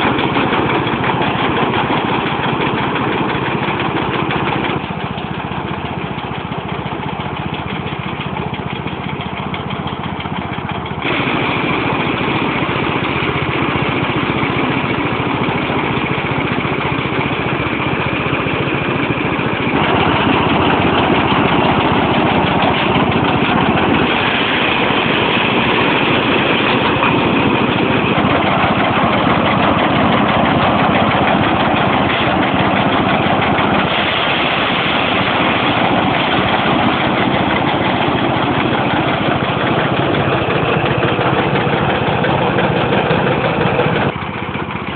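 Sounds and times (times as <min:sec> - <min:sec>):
diesel engine running: 0:00.0 - 0:44.9
thresher drum spinning: 0:00.0 - 0:44.9.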